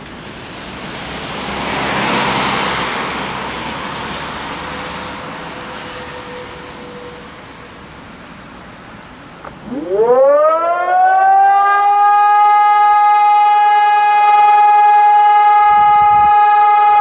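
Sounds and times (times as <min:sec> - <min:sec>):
road vehicle passing: 0:00.0 - 0:15.9.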